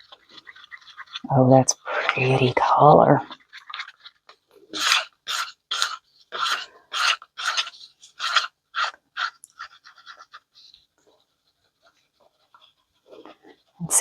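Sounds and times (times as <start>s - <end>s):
stir stick scraping a cup: 0.0s - 14.0s.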